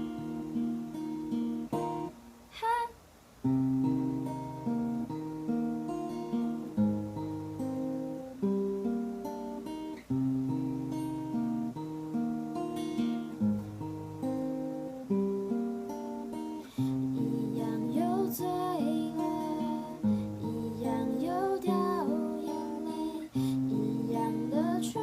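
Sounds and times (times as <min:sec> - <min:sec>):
acoustic guitar strumming chords: 0:00.0 - 0:02.3, 0:03.4 - 0:25.0.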